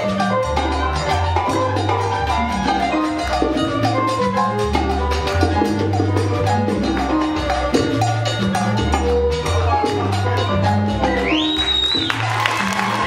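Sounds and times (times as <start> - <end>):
background music with busy percussion: 0.0 - 13.0.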